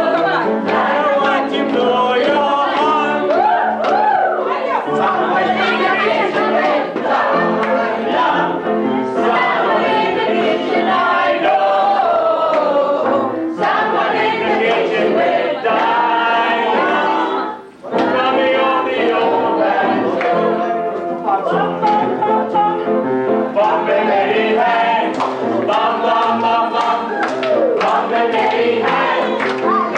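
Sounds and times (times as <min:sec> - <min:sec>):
group of voices singing: 0:00.0 - 0:29.9.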